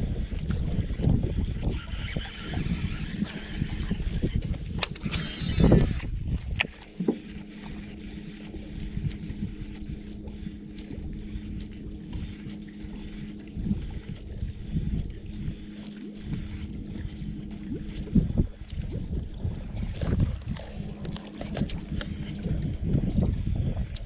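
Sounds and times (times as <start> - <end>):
wind rumbling on microphone: 0.0 - 24.0
electric motor humming: 1.4 - 19.8, 20.4 - 23.3.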